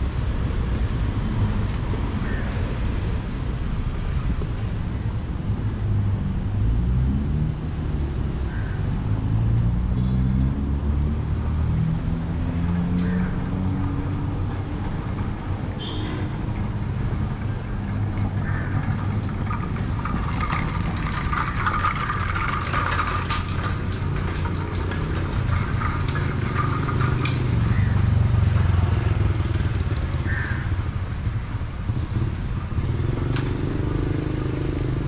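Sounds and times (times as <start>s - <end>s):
street traffic noise: 0.0s - 35.0s
vehicle engine humming: 3.0s - 35.0s.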